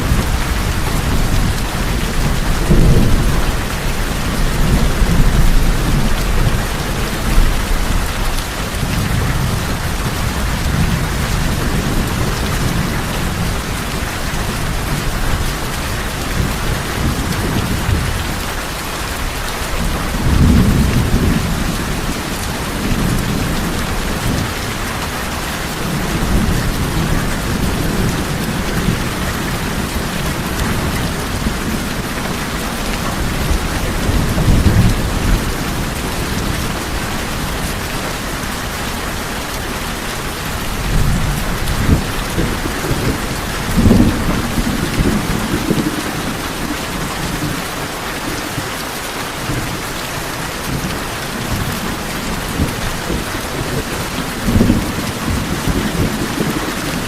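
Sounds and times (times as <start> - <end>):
thunder rumbling: 0.0 - 39.6, 40.2 - 47.8, 50.5 - 57.0
rain on a tin roof: 0.0 - 57.0.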